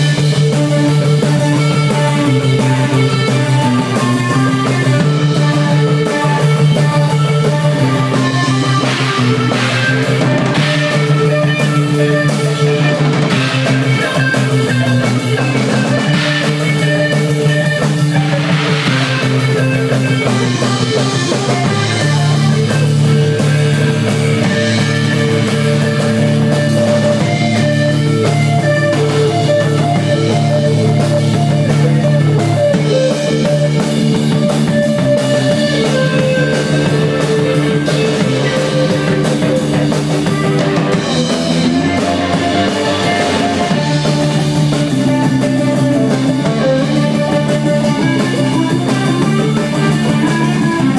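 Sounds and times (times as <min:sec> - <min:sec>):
bass guitar: 0:00.0 - 0:50.9
drum kit: 0:00.0 - 0:50.9
electric guitar: 0:00.0 - 0:50.9.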